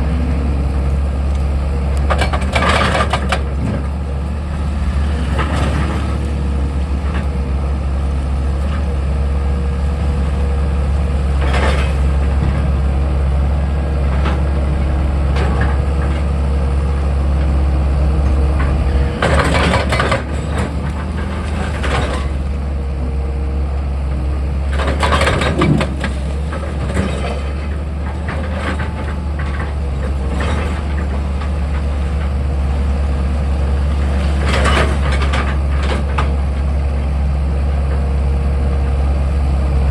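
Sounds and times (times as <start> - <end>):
excavator diesel engine running: 0.0 - 39.9
machinery clanks and scrapes: 0.1 - 22.8, 24.6 - 37.0.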